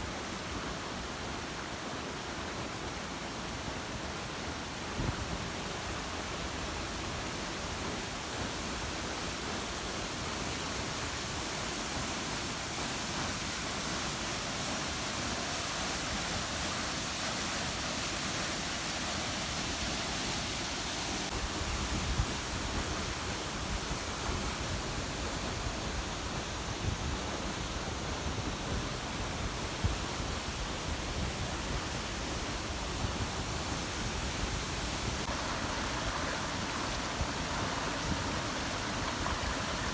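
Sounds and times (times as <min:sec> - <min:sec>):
waterfall pouring into pool: 0:05.4 - 0:21.4, 0:22.3 - 0:39.9.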